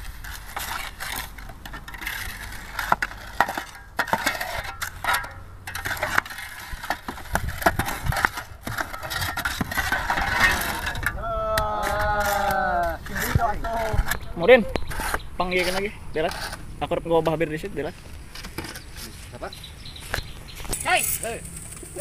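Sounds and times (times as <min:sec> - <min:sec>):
shovels scraping sand: 0:00.0 - 0:22.0.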